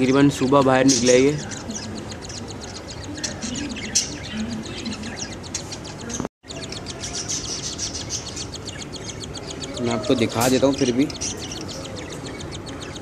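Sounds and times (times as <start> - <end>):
cockatiels chirping: 0.0 - 13.0.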